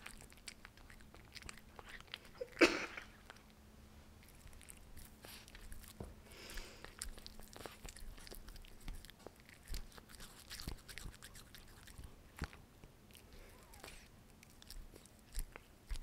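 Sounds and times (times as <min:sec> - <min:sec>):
cat chewing: 0:00.0 - 0:16.0.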